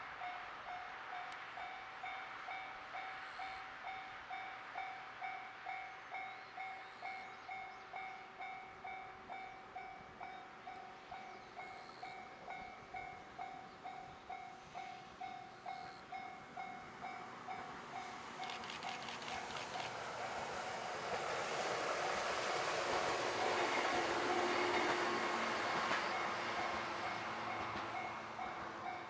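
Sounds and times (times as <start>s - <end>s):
level-crossing warning bell ringing: 0.0s - 19.0s, 23.4s - 29.0s
passing train rail noise: 0.0s - 29.0s.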